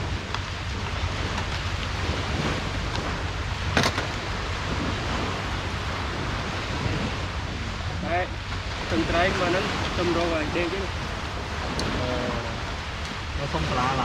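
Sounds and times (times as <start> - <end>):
sea surf rushing: 0.0 - 14.0
wind buffeting the microphone: 0.0 - 14.0.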